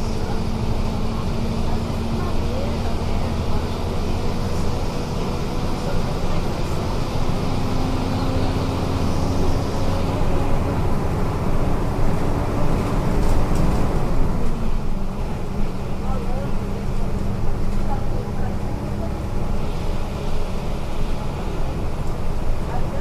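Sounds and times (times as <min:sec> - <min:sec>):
bus diesel engine running: 0:00.0 - 0:23.0.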